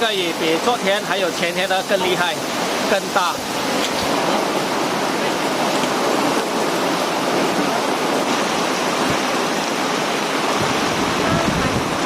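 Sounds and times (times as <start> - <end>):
heavy rain rushing: 0.0 - 12.0.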